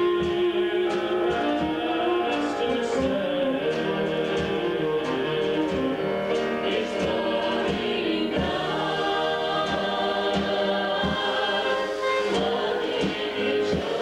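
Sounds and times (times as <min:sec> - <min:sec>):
instrumental accompaniment with beat: 0:00.0 - 0:14.0
vocal group singing gospel: 0:00.0 - 0:14.0.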